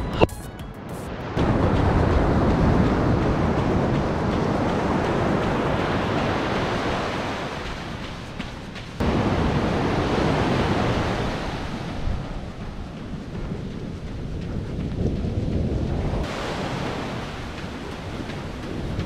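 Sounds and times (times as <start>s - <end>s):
ocean surf washing up: 0.8s - 14.3s, 15.2s - 19.0s
wind on the microphone: 1.2s - 19.0s.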